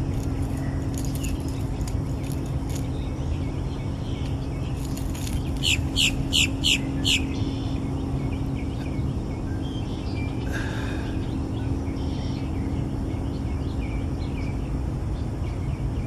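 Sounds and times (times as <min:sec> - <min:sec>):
bird chirping: 0:00.0 - 0:16.0
faint constant hum: 0:00.0 - 0:16.0.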